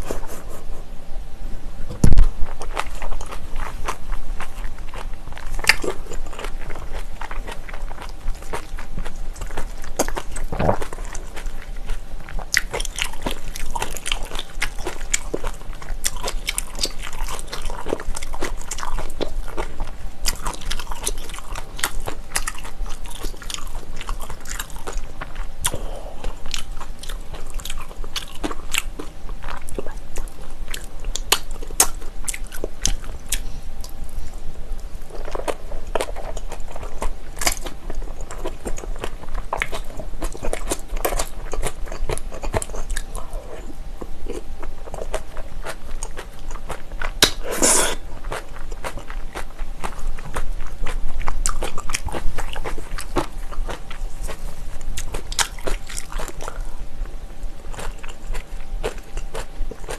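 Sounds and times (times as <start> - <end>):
chewing and biting: 2.0 - 34.4, 35.1 - 56.8, 57.6 - 59.9.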